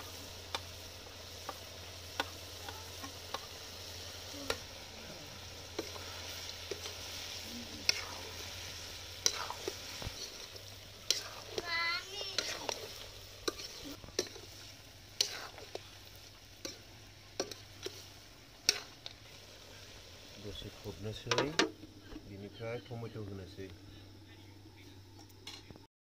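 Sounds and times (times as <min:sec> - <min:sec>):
meat sizzling in a pan: 0:00.0 - 0:25.6.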